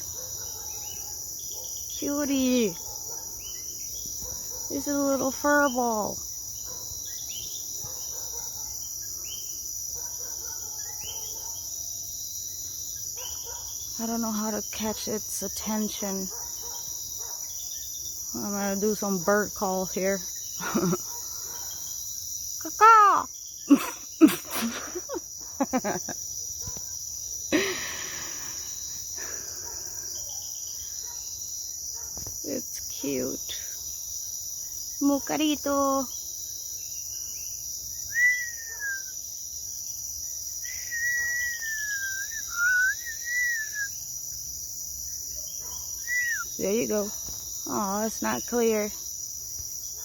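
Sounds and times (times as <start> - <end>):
insects trilling: 0.0 - 50.0.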